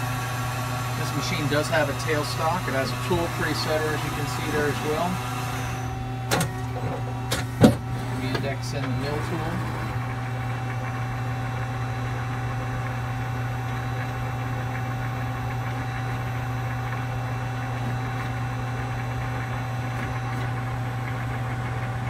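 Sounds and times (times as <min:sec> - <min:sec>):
lathe humming: 0:00.0 - 0:22.0
thin steady whine: 0:00.0 - 0:22.0.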